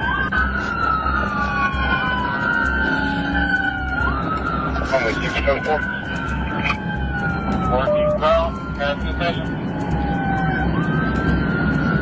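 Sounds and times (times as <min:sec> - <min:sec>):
low vehicle rumble: 0:00.0 - 0:12.0
police siren wailing: 0:00.0 - 0:12.0.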